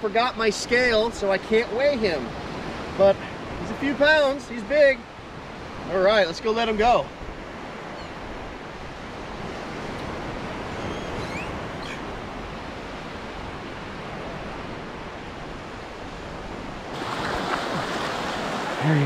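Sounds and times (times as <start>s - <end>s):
ocean surf on sandy beach: 0.0s - 19.0s
wind: 0.0s - 19.0s.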